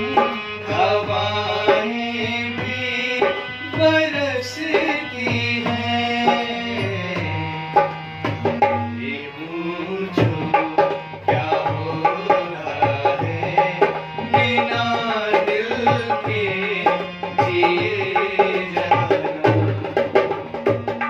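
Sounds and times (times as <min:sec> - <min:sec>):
harmonium notes: 0:00.0 - 0:21.0
man singing: 0:00.0 - 0:21.0
hand drum rhythm: 0:01.6 - 0:09.0, 0:10.2 - 0:21.0.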